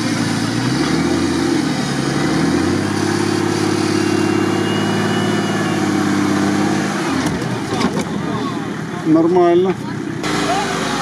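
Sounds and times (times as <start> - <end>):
truck engine revving under load: 0.0 - 8.2, 10.1 - 11.0.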